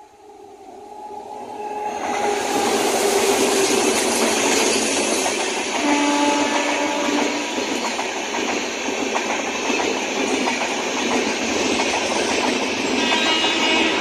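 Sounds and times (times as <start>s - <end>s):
train coaches rushing past: 0.0s - 14.0s.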